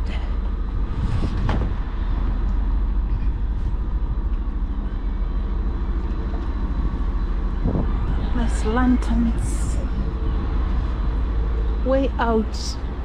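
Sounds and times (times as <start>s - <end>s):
train engine idling: 0.0s - 13.0s.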